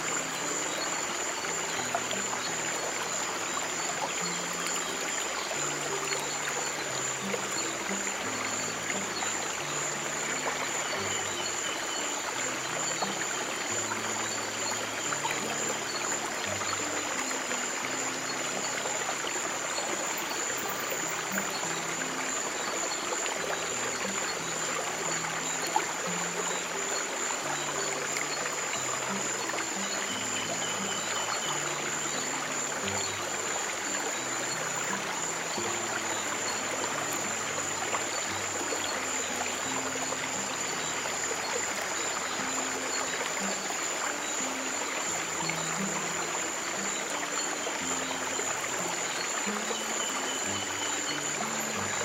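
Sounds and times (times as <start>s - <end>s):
stream water trickling: 0.0s - 52.0s.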